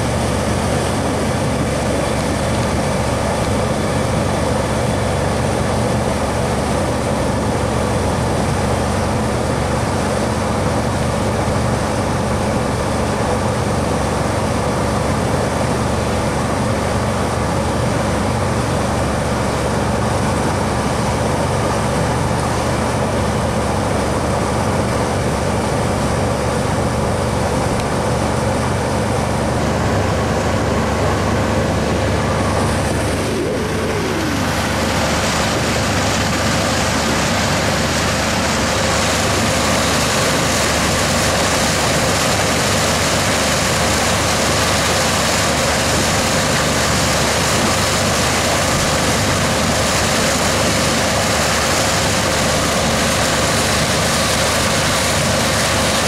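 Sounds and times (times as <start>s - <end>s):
boat engine droning: 0.0s - 56.0s
water and wind rushing: 0.0s - 56.0s.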